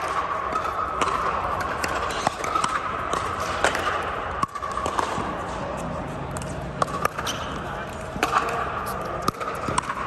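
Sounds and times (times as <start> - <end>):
paddles striking plastic balls: 0.0 - 5.4, 6.3 - 10.0
balls bouncing on hard court: 0.0 - 10.0
steady background hum: 0.0 - 10.0.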